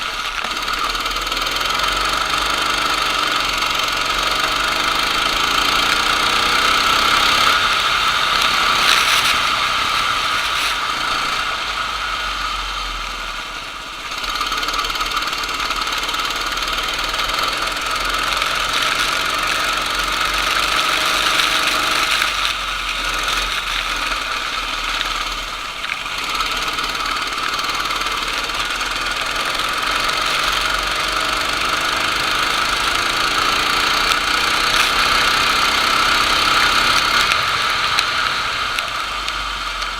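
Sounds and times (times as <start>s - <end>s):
go-kart engine running hard: 0.0s - 39.9s
steady rushing hiss: 0.0s - 39.9s.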